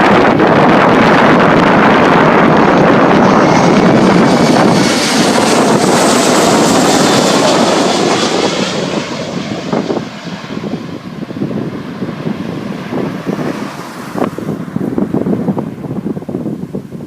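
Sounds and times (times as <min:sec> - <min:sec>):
jet airliner passing: 0:00.0 - 0:17.0
wind buffeting microphone: 0:00.0 - 0:17.0.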